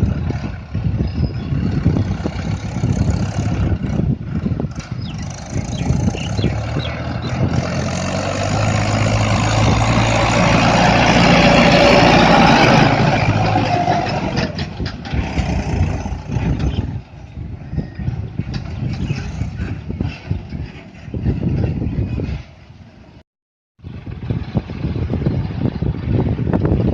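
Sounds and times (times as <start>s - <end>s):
tractor diesel engine running: 0.0s - 23.2s, 23.8s - 26.9s.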